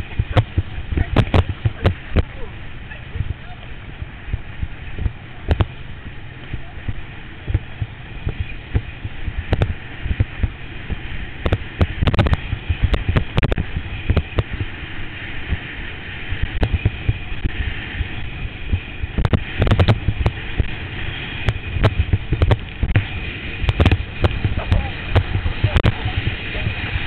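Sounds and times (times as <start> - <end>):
water rushing and spraying: 0.0 - 27.0
wind on microphone: 0.0 - 27.0.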